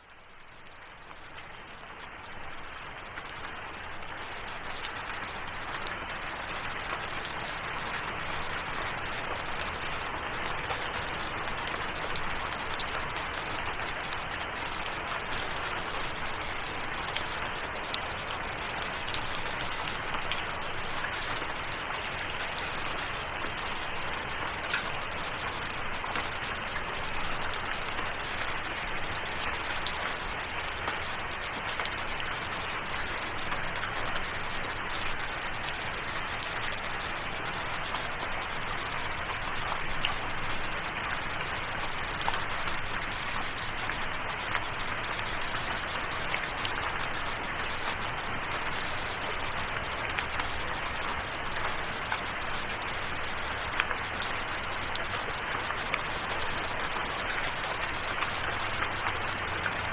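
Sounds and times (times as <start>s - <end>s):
steady rain hiss: 0.1s - 59.9s.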